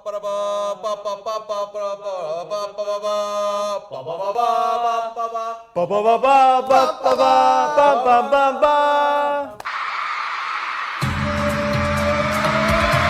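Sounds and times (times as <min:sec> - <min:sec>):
man singing long notes: 0:00.0 - 0:09.6, 0:11.1 - 0:13.0.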